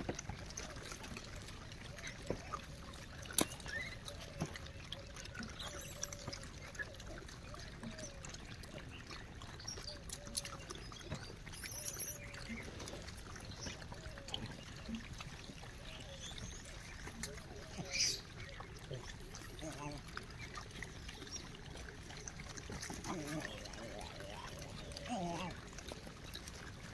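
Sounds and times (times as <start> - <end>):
monkeys chewing and rustling: 0.0 - 26.9.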